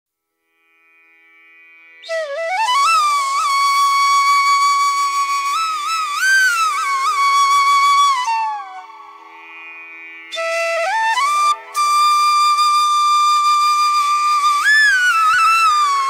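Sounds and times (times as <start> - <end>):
flute melody: 2.0 - 16.0.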